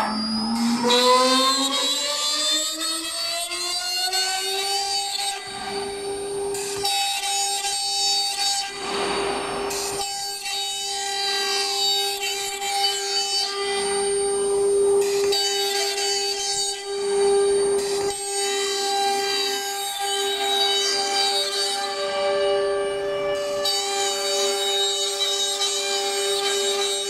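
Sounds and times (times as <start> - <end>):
router spindle whining: 0.0 - 27.0.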